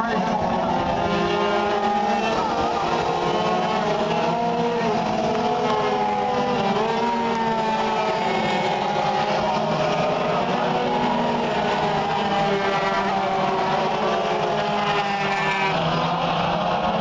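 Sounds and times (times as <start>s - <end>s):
race kart engines whining: 0.0s - 17.0s.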